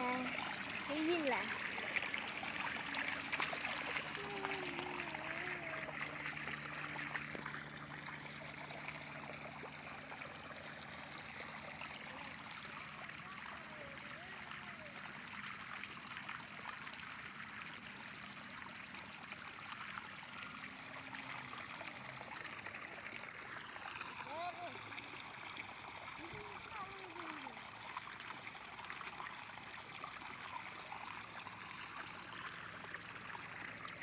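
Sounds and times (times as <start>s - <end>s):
water trickling through channel: 0.0s - 34.0s.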